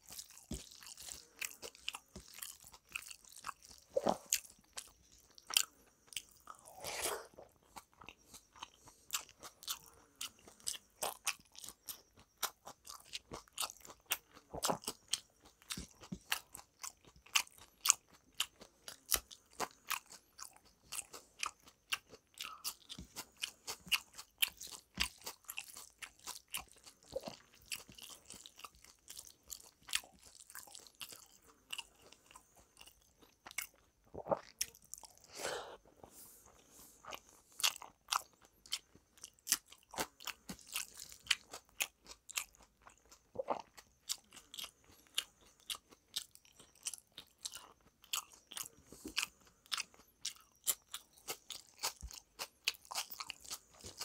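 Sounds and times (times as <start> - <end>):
man chewing food: 0.0 - 54.0.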